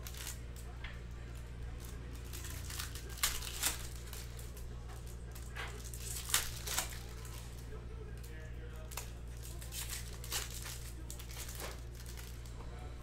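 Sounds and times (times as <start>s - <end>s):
cards being shuffled: 0.0s - 7.6s, 8.9s - 12.6s
card wrappers crinkling: 0.0s - 12.6s
steady low hum: 0.0s - 13.0s.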